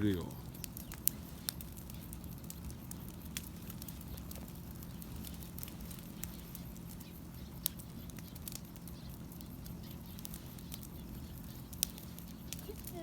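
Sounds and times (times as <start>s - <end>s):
bonfire crackling and popping: 0.0s - 13.0s
low fire rumble: 0.0s - 13.0s.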